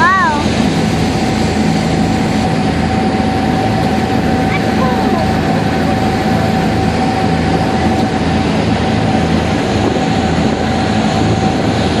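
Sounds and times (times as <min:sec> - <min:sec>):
boat engine rumble: 0:00.0 - 0:12.0
rush of wind and water: 0:00.0 - 0:12.0.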